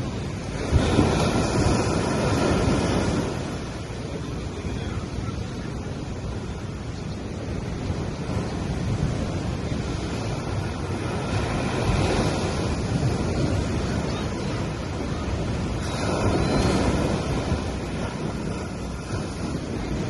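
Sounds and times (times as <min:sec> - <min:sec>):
sea waves washing onto beach: 0:00.0 - 0:20.0
wind rumbling on microphone: 0:00.0 - 0:20.0.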